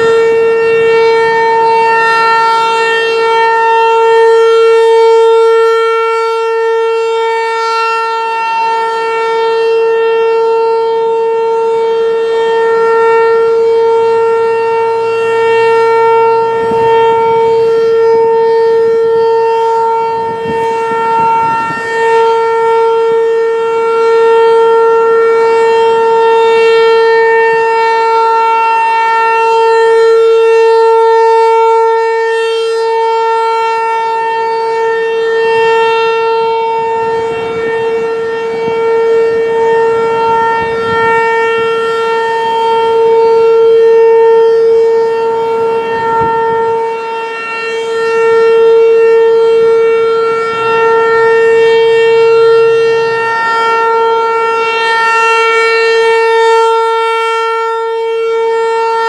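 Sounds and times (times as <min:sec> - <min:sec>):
warning siren steady tone: 0:00.0 - 0:59.0.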